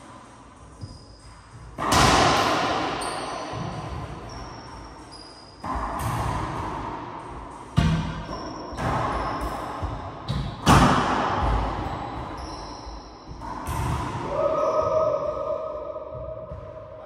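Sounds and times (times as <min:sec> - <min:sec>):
racquetball hits echoing: 0:00.8 - 0:17.0.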